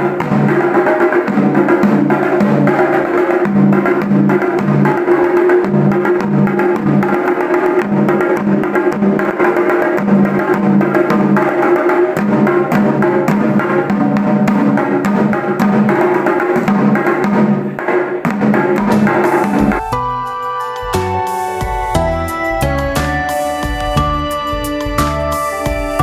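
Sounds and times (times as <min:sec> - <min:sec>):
music with fast percussion: 0:00.0 - 0:26.0.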